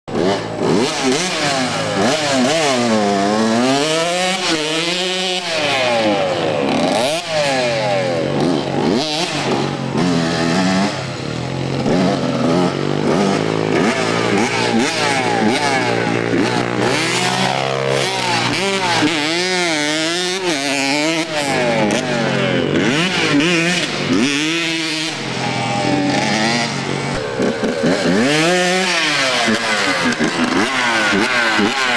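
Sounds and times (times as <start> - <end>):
dirt bike engine revving: 0.1 - 31.9.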